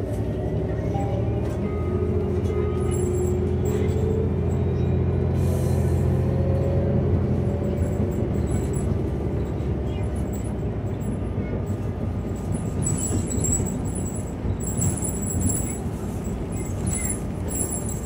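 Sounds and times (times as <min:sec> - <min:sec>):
bus pulling away: 0:00.0 - 0:18.0.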